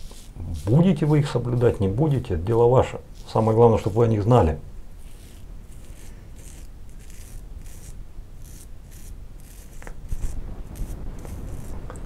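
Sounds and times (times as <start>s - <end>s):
razor scraping stubble: 0.0s - 12.0s.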